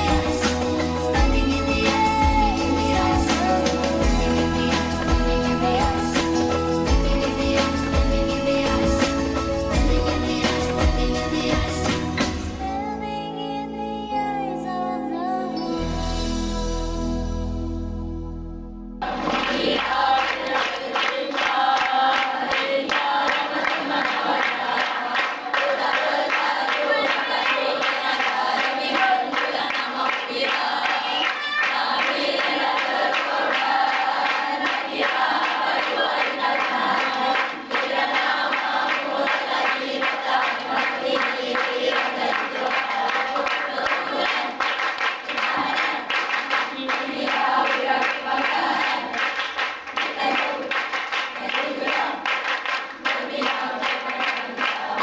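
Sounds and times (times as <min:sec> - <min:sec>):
hand-clapping: 0:00.0 - 0:12.5, 0:19.1 - 0:55.0
group singing together: 0:00.0 - 0:12.8, 0:19.0 - 0:55.0.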